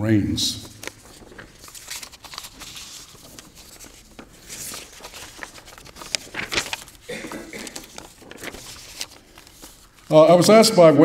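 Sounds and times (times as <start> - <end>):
paper rustling and shuffling: 0.6 - 10.6.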